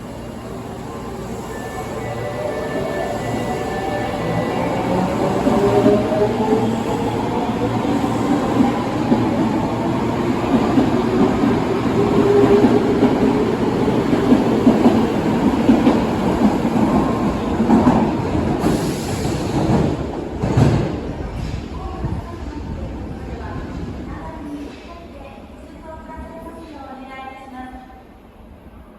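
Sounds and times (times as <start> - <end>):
subway train wheels rumbling on rails: 0.0 - 28.9.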